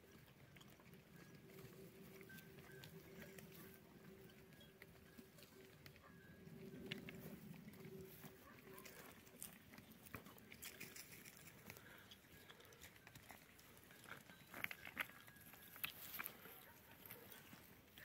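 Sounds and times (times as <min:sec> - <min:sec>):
goat hooves on gravel road: 0:00.0 - 0:18.0.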